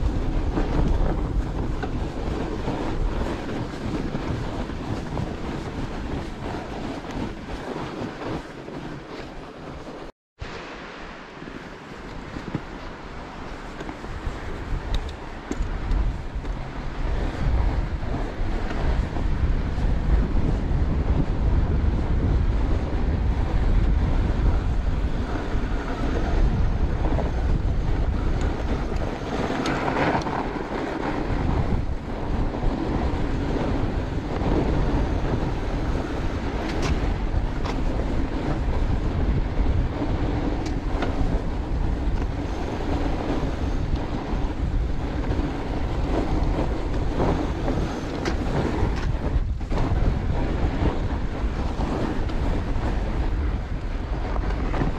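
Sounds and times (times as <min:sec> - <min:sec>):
bike tyres rolling over snow: 0:00.0 - 0:54.9
wind buffeting microphone: 0:00.0 - 0:54.9.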